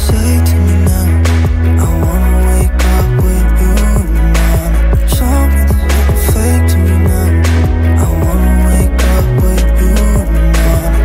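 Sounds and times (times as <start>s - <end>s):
song with heavy bass: 0.0s - 11.0s.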